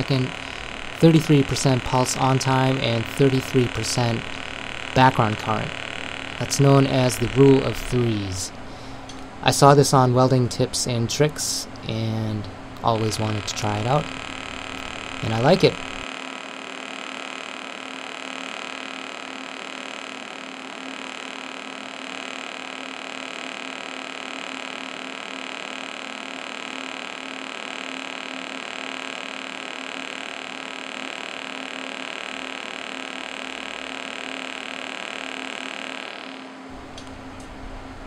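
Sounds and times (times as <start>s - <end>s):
welding arc buzzing: 0.0s - 38.0s.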